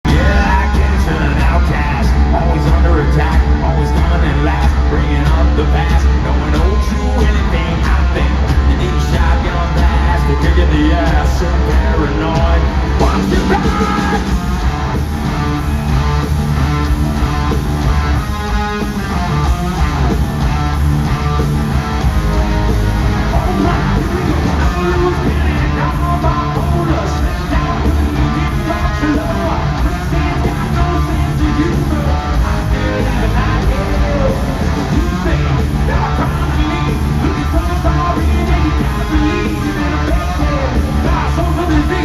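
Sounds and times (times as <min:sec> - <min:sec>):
bass guitar: 0:00.0 - 0:42.0
distorted electric guitars: 0:00.0 - 0:42.0
drums: 0:00.0 - 0:42.0
person singing: 0:00.1 - 0:14.7, 0:22.3 - 0:42.0.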